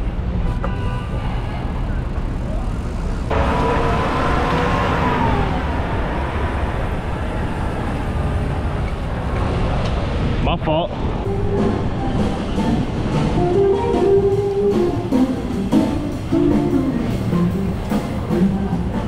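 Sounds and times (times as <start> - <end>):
low rumble of street traffic: 0.0 - 19.0
vehicle engine drone: 1.2 - 19.0.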